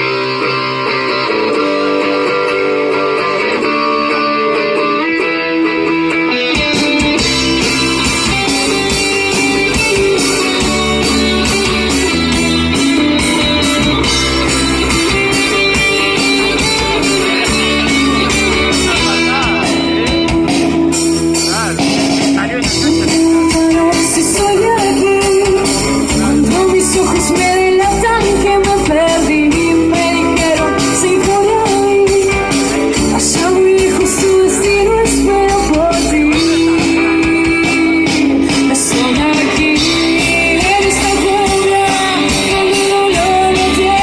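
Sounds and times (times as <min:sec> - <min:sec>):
electric guitar playing: 0:00.0 - 0:44.0
rock band playing: 0:00.0 - 0:44.0.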